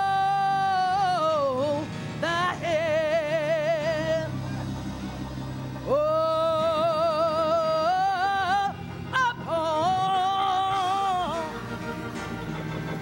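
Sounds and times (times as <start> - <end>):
gospel solo singing with vibrato: 0.0 - 13.0
quiet instrumental backing: 0.0 - 13.0.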